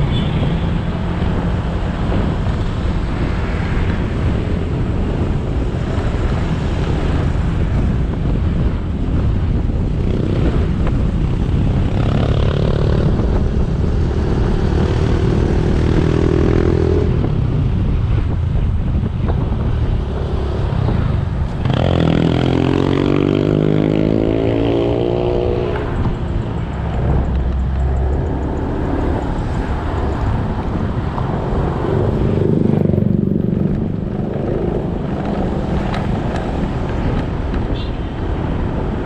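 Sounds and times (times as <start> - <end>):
road noise: 0.0 - 39.0
wind noise: 0.0 - 39.0.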